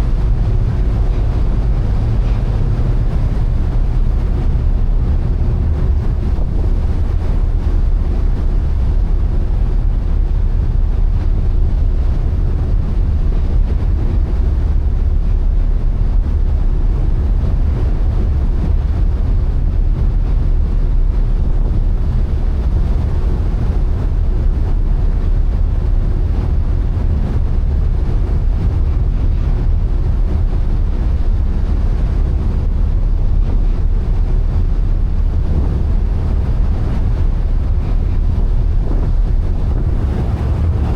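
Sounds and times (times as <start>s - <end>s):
ferry engine hum: 0.0s - 40.9s
sea rushing: 0.0s - 40.9s
wind buffeting microphone: 0.0s - 40.9s.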